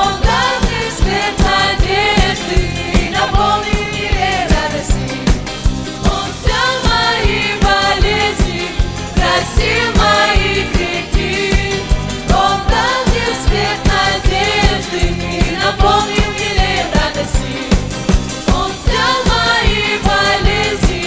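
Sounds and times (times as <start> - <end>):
band with steady drum beat: 0.0 - 21.0
women singing: 0.0 - 21.0.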